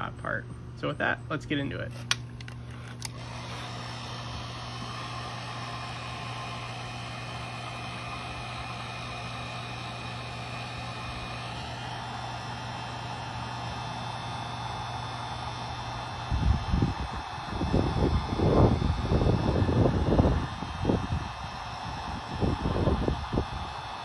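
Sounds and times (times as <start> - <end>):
heat gun fan humming: 0.0 - 24.0
hot air hissing: 2.7 - 24.0.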